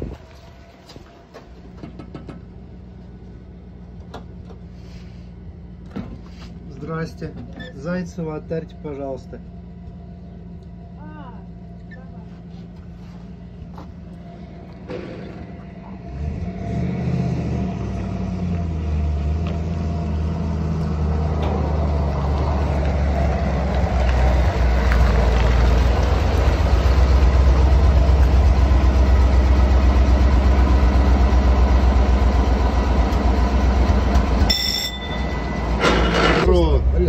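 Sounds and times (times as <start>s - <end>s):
lorry engine low rumble: 0.0s - 37.0s.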